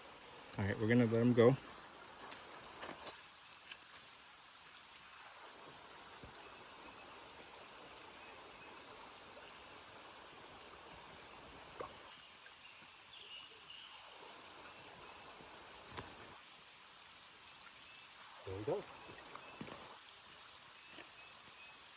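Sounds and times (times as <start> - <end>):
creek water running: 0.0 - 21.9.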